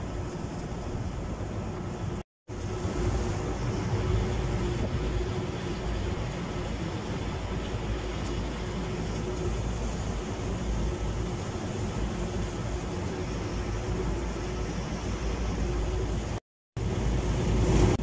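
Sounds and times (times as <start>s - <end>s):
boat engine running: 0.0s - 18.0s
water rushing from hull: 0.0s - 18.0s
wind on microphone: 0.0s - 18.0s.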